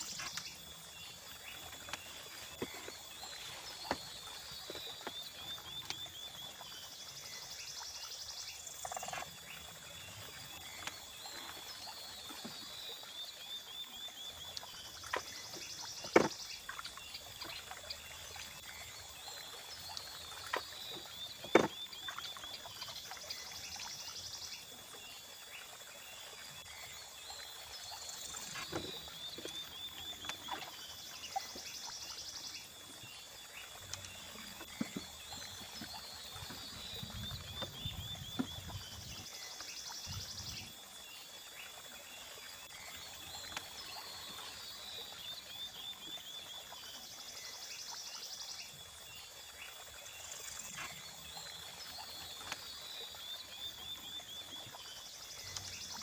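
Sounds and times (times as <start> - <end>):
natural background noise: 0.0 - 56.0.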